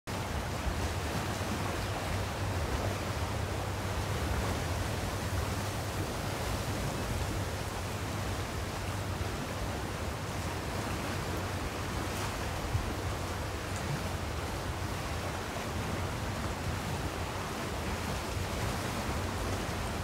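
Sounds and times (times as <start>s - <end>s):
choppy sea water: 0.1s - 20.0s.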